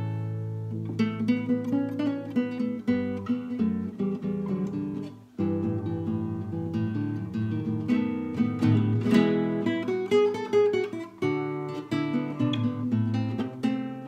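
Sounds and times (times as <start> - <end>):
classical guitar playing: 0.0 - 14.0.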